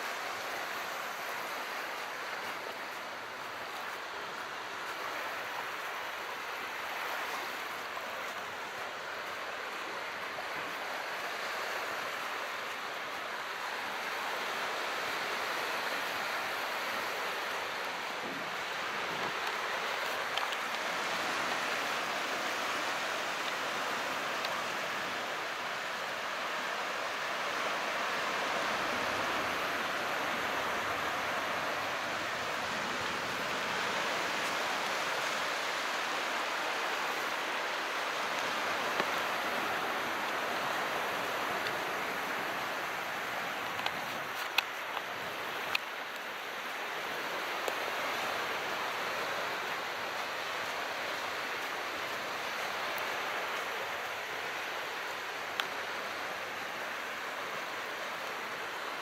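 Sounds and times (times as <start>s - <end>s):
gentle waves washing in: 0.0s - 59.0s.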